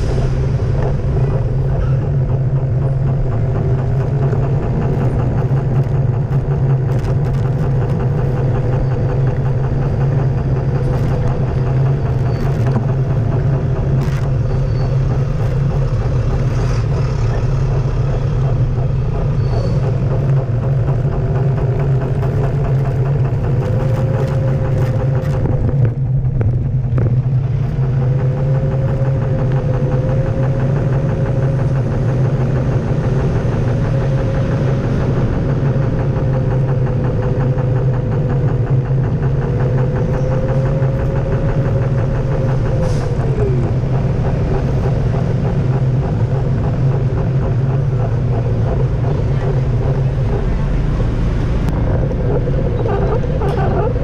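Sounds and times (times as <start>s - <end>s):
tyre rumbling on asphalt: 0.0s - 54.0s.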